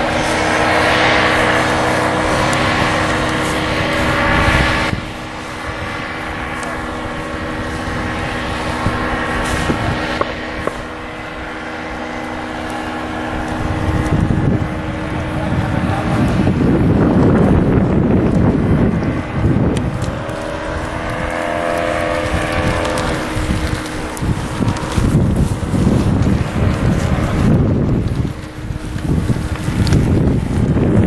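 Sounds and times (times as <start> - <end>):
paramotor engine droning: 0.0 - 31.0
wind buffeting microphone: 0.0 - 31.0.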